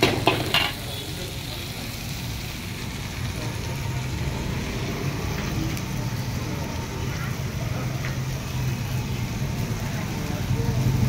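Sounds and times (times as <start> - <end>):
gas burners rumbling: 0.0 - 11.0
street background din: 0.0 - 11.0.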